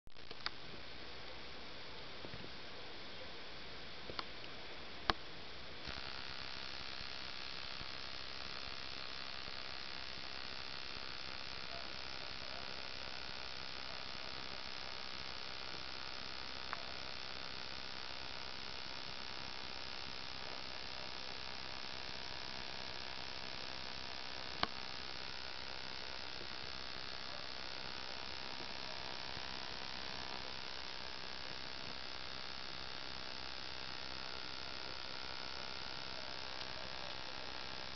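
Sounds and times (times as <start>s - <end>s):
bush-cricket buzzing: 5.8s - 37.9s.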